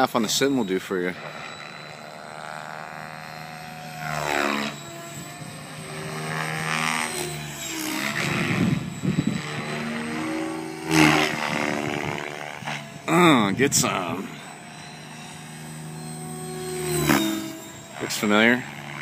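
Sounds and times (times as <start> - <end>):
rc helicopter rotor whine: 0.0 - 19.0.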